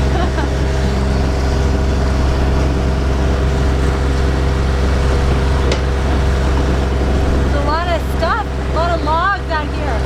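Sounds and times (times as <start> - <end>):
boat engine drone: 0.0 - 10.0
water rushing: 0.0 - 10.0
wind: 0.0 - 10.0.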